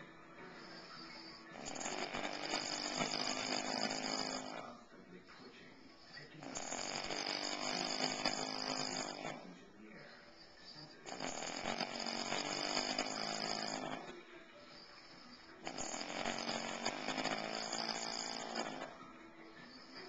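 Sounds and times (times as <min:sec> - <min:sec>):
man snoring: 0:00.0 - 0:04.8, 0:05.9 - 0:09.6, 0:10.2 - 0:20.0
quiet breath: 0:00.0 - 0:20.0.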